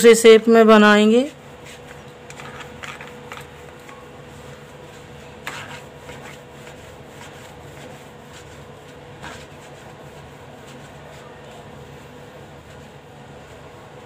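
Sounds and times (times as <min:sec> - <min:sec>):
steady low hum: 0:00.0 - 0:14.0
palms rubbing dough: 0:01.0 - 0:14.0.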